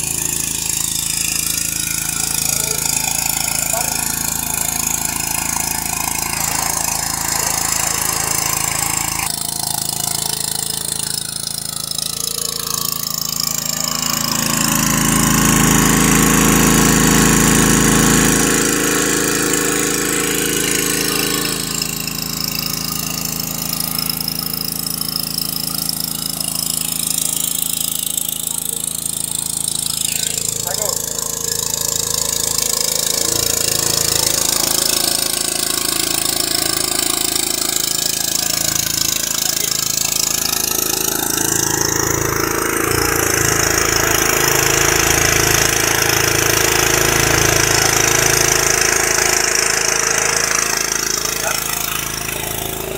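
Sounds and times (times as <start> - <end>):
petrol engine running under load: 0.0 - 52.9.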